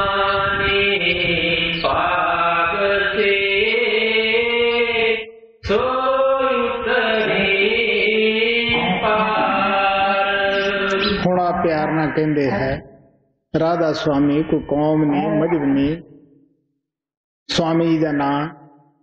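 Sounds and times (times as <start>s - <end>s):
man chanting: 0.0s - 13.0s, 13.6s - 16.1s, 17.5s - 18.5s.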